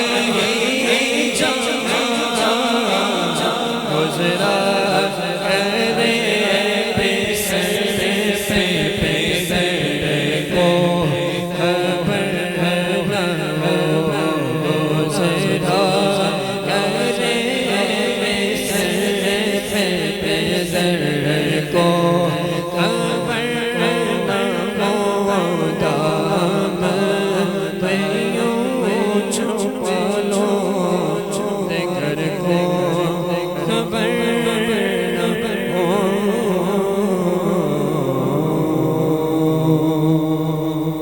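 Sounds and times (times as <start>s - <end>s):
voices chanting devotional song: 0.0s - 41.0s.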